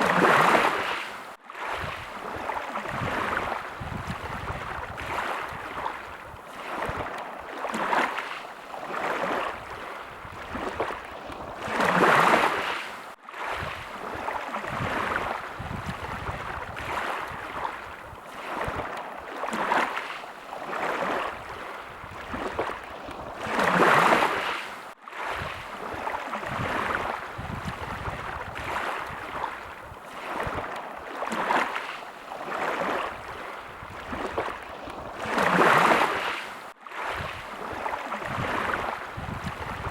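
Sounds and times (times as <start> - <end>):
larger waves breaking: 0.0 - 39.9
small sea waves washing in: 0.0 - 39.9.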